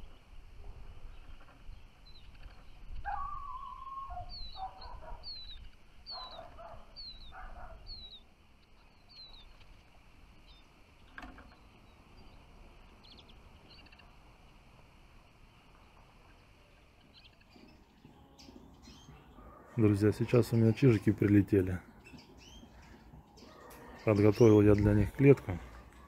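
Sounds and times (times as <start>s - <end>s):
songbird calling: 0.0s - 26.0s.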